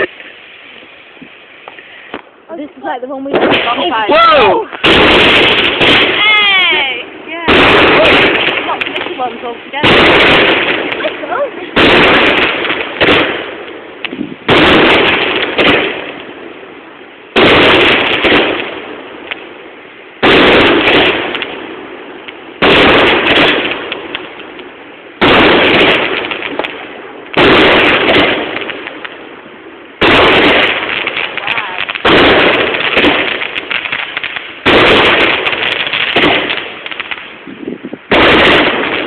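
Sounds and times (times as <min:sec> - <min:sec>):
fireworks bangs: 0:00.0 - 0:39.0
fireworks crackle: 0:00.0 - 0:39.0.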